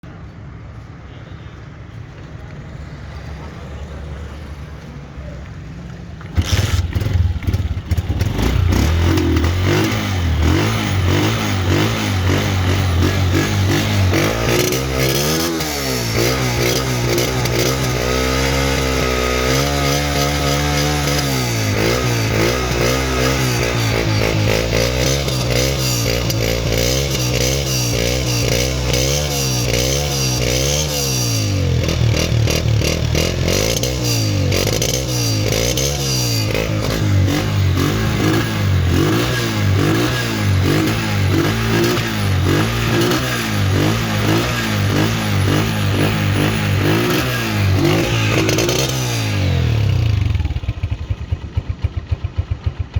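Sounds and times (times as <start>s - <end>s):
motorcycle engine revving: 6.3s - 52.9s.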